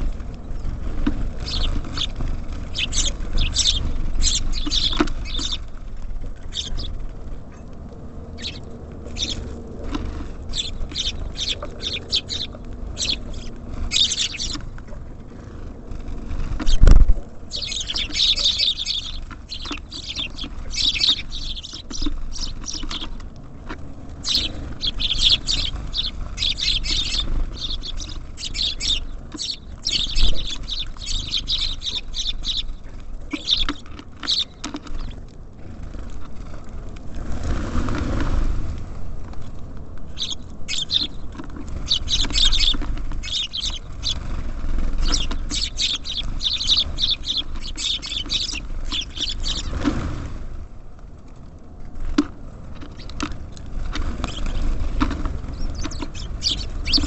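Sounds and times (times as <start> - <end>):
small songbirds chirping: 0.0 - 36.7, 40.1 - 50.4, 52.6 - 57.0.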